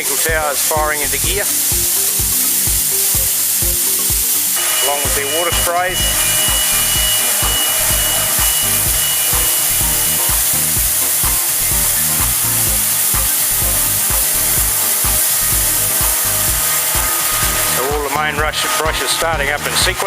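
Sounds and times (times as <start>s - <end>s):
water sprays hissing: 0.0s - 19.3s
running machinery: 0.0s - 20.0s
thin high whine: 0.0s - 20.0s.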